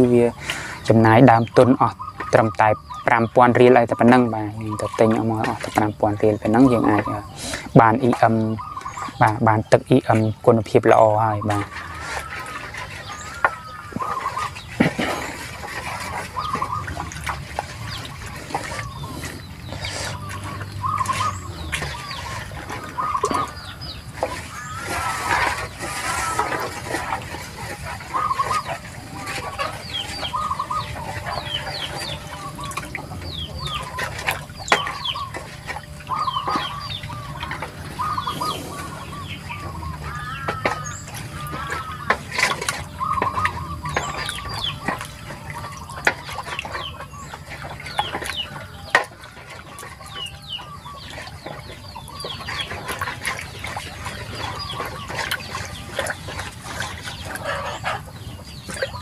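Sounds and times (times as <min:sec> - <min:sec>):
chickens clucking: 0:00.0 - 0:59.0
water sloshing in metal basin: 0:00.0 - 0:59.0.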